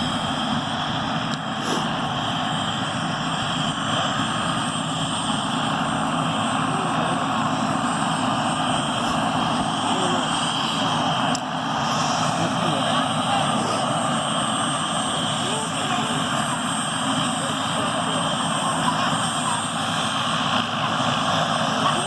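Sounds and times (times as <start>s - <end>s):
helicopter rotor noise: 0.0s - 22.0s
helicopter turbine whine: 0.0s - 22.0s.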